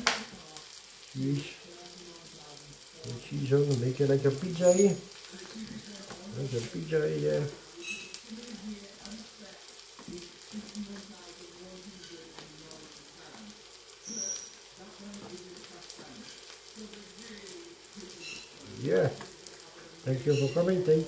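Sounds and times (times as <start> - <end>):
food sizzling in frying pans: 0.0 - 21.0.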